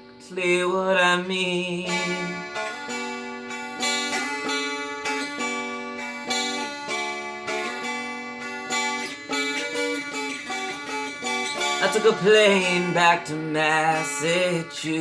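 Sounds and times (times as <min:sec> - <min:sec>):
plucked dulcimer melody: 0:01.9 - 0:15.0.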